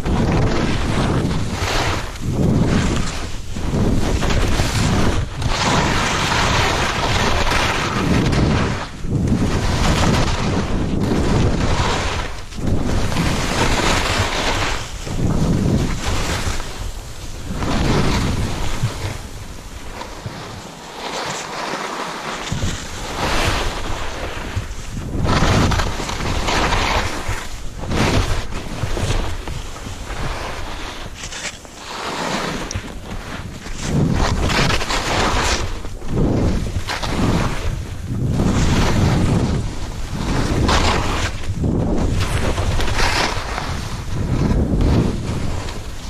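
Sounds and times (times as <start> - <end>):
skis scraping on hard snow: 0.0 - 46.0
wind rushing over microphone: 0.0 - 46.0.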